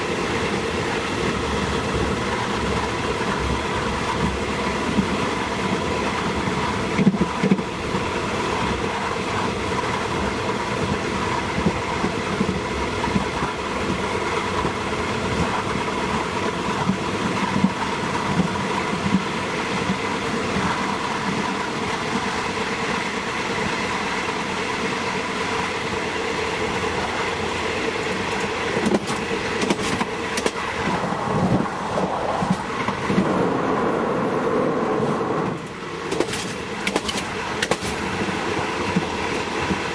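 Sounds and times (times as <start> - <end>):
diesel train running on track: 0.0 - 39.9.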